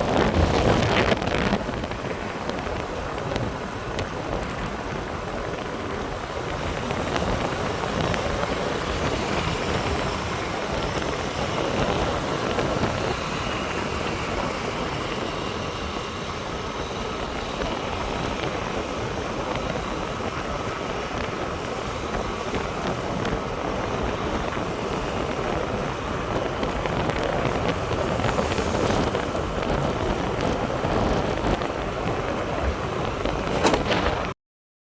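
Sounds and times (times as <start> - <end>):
vehicle running on road: 0.0 - 34.4
wind rushing on microphone: 0.0 - 34.4.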